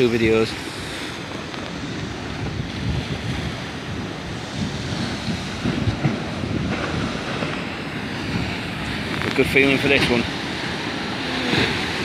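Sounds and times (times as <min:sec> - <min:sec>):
waves breaking against stone wall: 0:00.0 - 0:12.0
wind buffeting microphone: 0:00.0 - 0:12.0.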